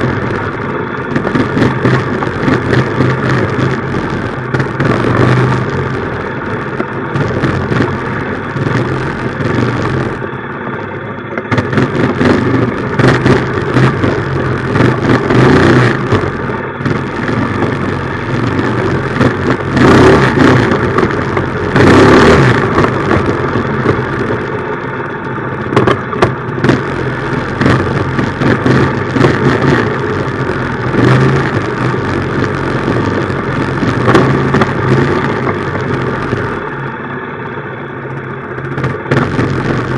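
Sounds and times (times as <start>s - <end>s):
minibike engine running: 0.0s - 39.9s
steady rushing noise: 0.0s - 39.9s.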